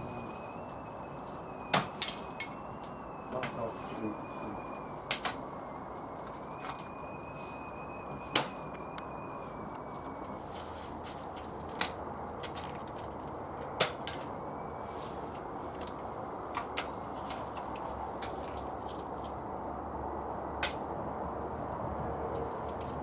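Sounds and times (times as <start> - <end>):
steady outdoor hiss: 0.0 - 23.0.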